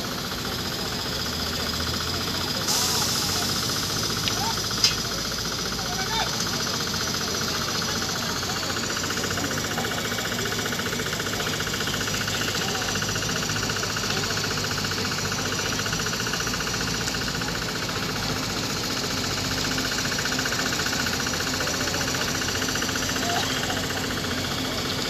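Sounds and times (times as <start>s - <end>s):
engine knocking steadily: 0.0s - 25.0s.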